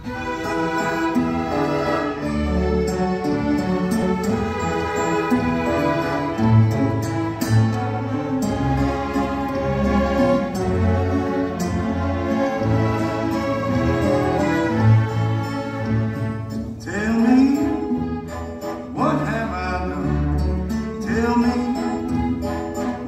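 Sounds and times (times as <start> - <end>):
string orchestra playing: 0.0 - 23.0.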